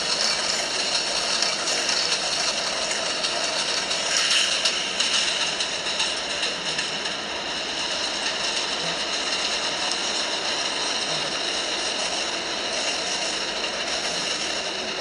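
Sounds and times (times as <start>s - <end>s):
subway train wheels on rail: 0.0s - 15.0s.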